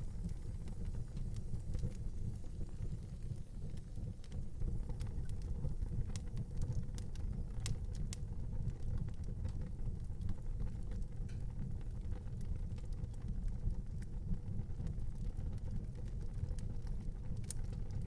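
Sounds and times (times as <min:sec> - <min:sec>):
fire crackles and pops: 0:00.0 - 0:18.0
wood fire rumbling: 0:00.0 - 0:18.0.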